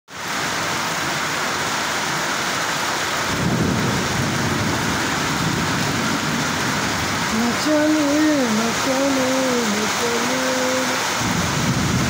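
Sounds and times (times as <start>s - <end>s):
heavy rain pouring: 0.1s - 12.0s.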